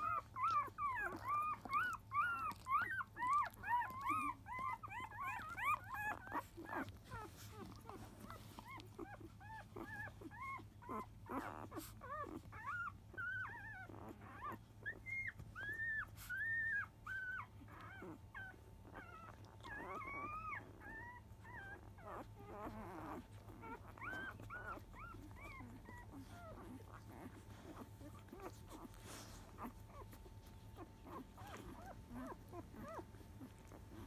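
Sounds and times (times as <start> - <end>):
puppies squeaking and whimpering: 0.0 - 34.0.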